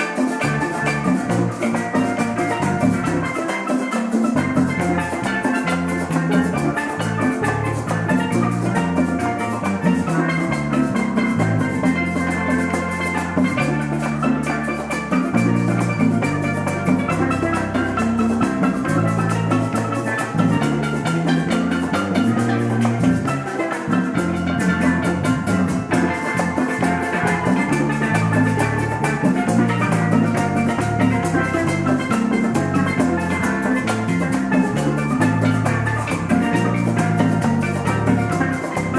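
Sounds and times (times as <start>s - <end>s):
bright instrument playing held notes: 0.0s - 38.9s
drums: 0.0s - 38.9s
bass line: 4.4s - 38.9s.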